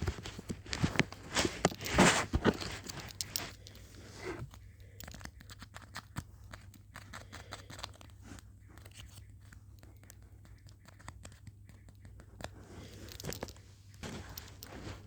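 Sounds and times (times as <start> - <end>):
faint clicks and taps: 0.0 - 15.0.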